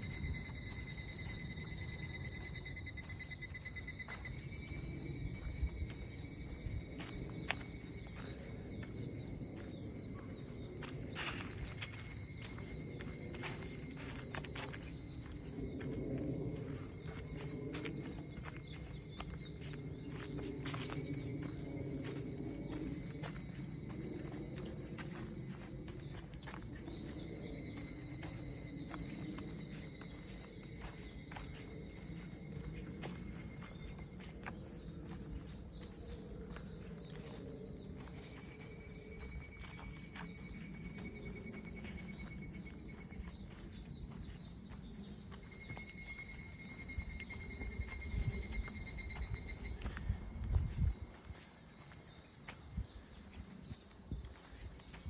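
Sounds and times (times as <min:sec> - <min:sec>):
cicadas buzzing: 0:00.0 - 0:55.0
faint insect tones: 0:00.0 - 0:55.0.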